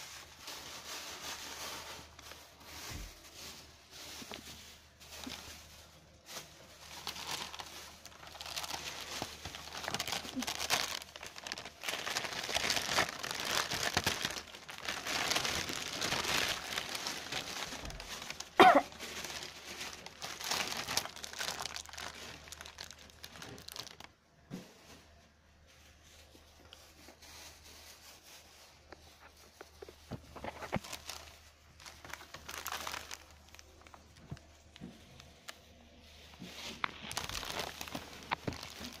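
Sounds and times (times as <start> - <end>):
plastic bag rustling: 0.0 - 39.0.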